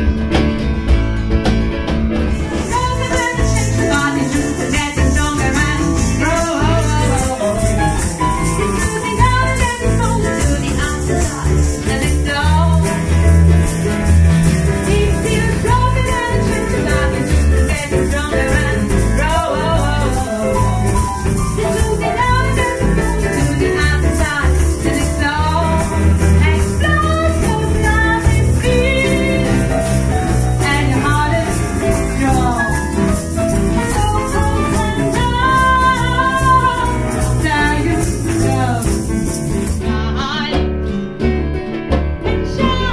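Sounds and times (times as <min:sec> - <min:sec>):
bass line: 0:00.0 - 0:42.9
shaker rattle: 0:02.4 - 0:40.0
woman singing: 0:02.5 - 0:13.3, 0:14.7 - 0:40.9, 0:42.2 - 0:42.9.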